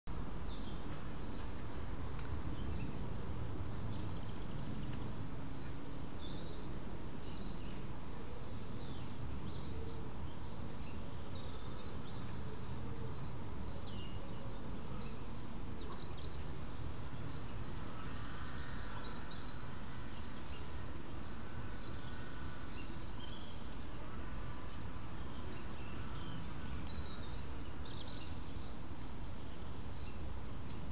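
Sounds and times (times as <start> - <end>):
songbirds singing: 0.1 - 30.9.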